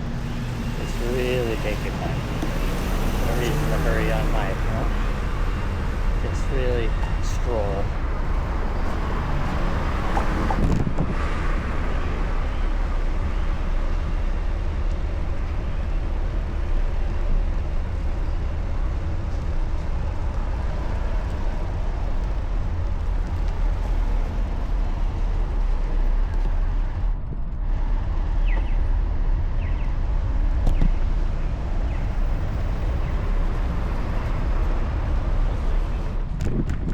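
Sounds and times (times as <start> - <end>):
city traffic noise: 0.0 - 36.9
low rumble: 0.0 - 36.9.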